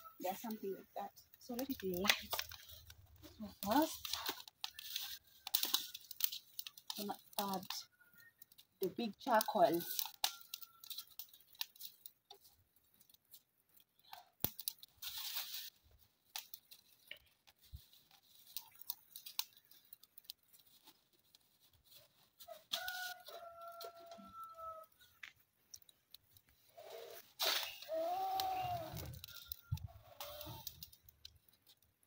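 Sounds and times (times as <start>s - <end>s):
plastic bag crinkling: 0.2s - 32.0s
charcoal lumps clicking: 1.1s - 32.0s.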